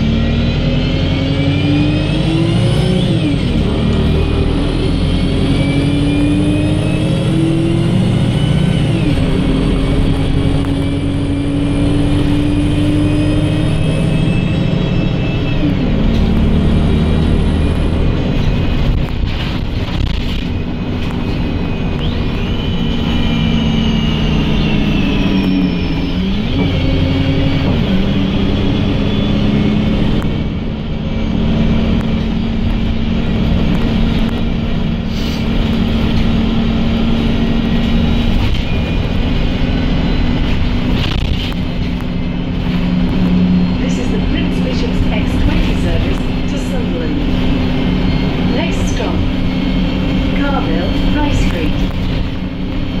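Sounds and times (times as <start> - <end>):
bus diesel engine running: 0.0 - 53.0
high engine whine: 0.0 - 53.0.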